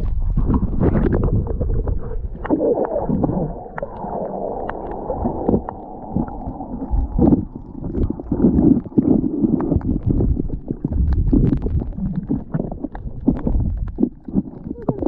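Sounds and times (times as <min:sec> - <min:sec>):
small clicks and gurgles: 0:00.0 - 0:15.0
underwater rumble of moving water: 0:00.0 - 0:15.0.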